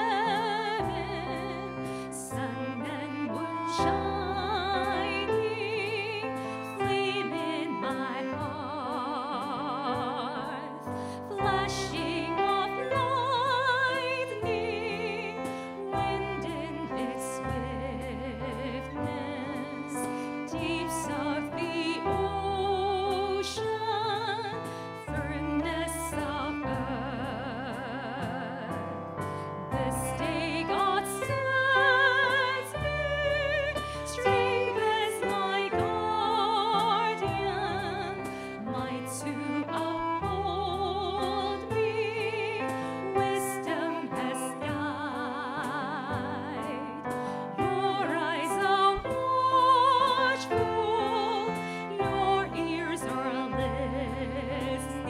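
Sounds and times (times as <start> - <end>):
instrumental accompaniment: 0.0 - 55.0.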